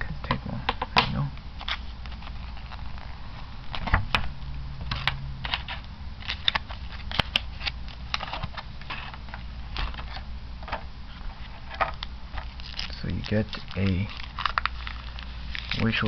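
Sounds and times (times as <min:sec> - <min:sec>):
plastic and paper crinkling: 0:01.6 - 0:04.2, 0:04.8 - 0:16.0.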